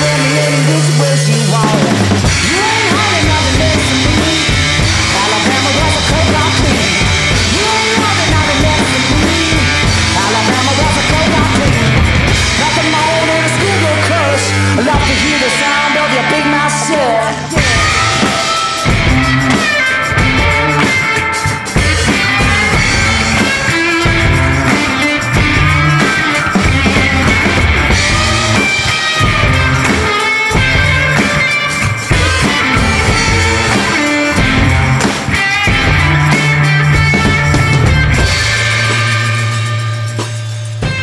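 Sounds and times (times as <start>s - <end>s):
drum kit: 0.0s - 41.0s
electric guitar: 0.0s - 41.0s.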